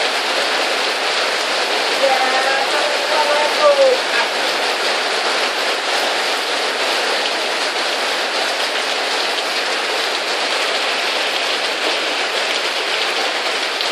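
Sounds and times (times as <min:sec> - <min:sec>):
steady rain hiss: 0:00.0 - 0:13.9.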